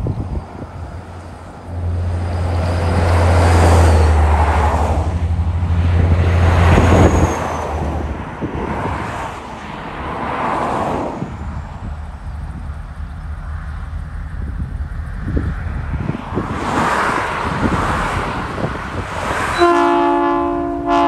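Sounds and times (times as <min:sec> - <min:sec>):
deep heavy engine rumble: 0:00.0 - 0:19.3
highway traffic passing: 0:00.0 - 0:21.0.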